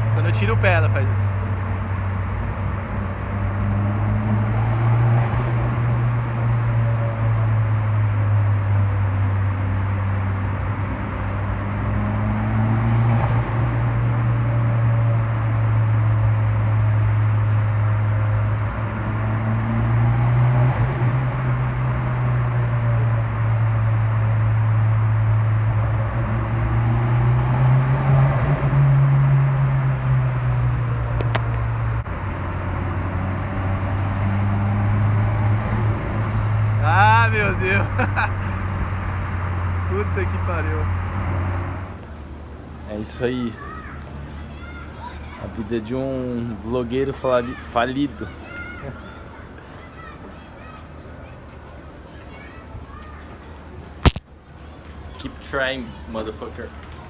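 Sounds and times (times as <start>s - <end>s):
car engine revving: 0.0s - 50.4s.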